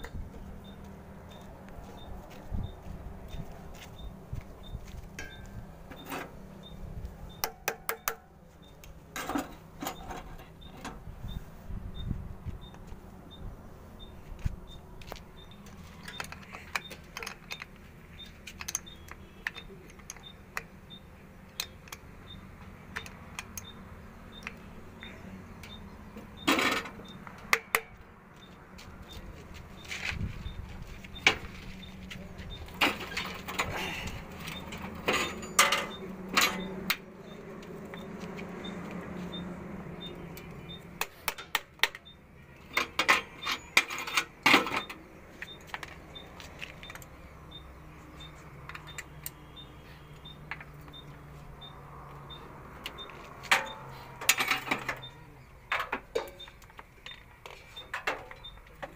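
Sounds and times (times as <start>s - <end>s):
metal tools clinking on battery terminals: 5.1s - 11.0s, 14.7s - 28.6s, 29.8s - 39.4s, 40.0s - 58.9s.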